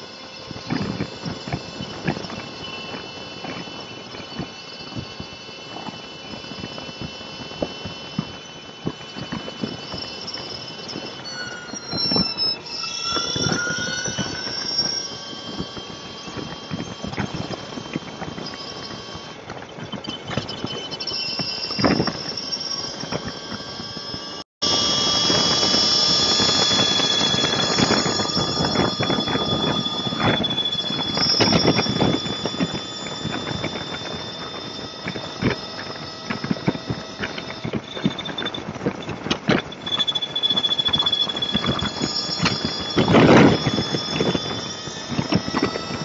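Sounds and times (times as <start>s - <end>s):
high-pitched motorcycle whine: 0.0s - 46.0s.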